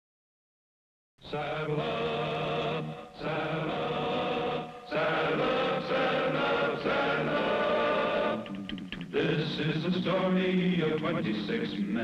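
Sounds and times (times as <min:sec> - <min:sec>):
chorus singing held notes: 0:01.2 - 0:12.0.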